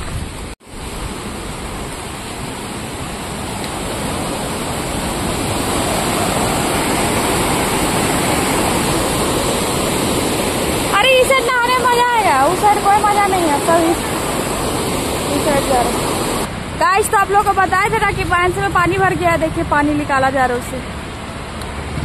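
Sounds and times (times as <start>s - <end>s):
river water rushing: 0.0s - 19.6s, 20.8s - 22.0s.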